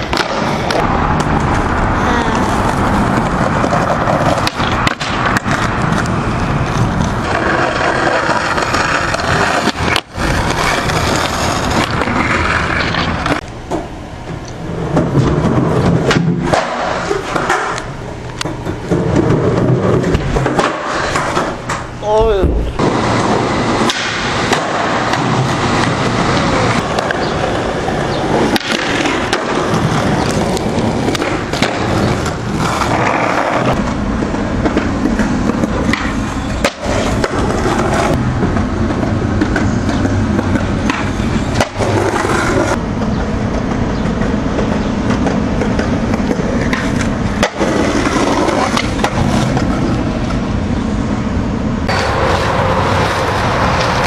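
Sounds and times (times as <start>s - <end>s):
skateboard wheels rolling on concrete: 0.0s - 54.0s
skateboard knocking: 2.6s - 50.4s.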